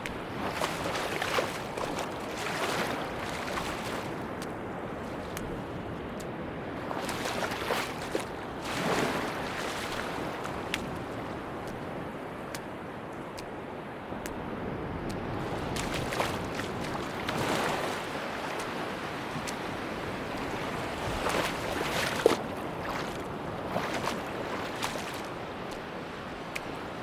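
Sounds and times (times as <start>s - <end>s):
sea waves breaking on beach: 0.0s - 27.0s.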